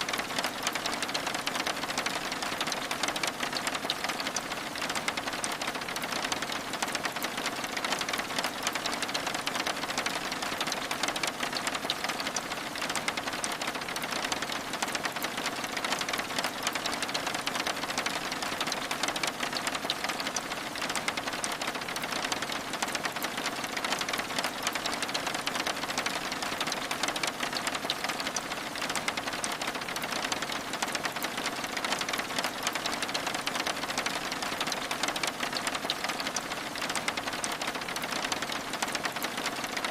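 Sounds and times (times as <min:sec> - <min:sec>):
rain pattering on window glass: 0:00.0 - 0:39.9.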